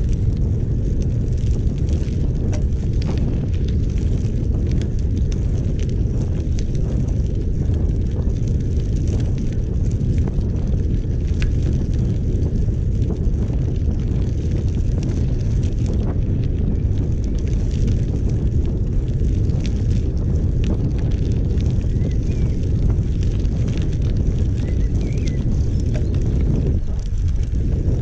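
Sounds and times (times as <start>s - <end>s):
bicycle tyres rolling on gravel: 0.0s - 28.0s
grit clicking under wheels: 0.0s - 28.0s
wind buffeting microphone: 0.0s - 28.0s.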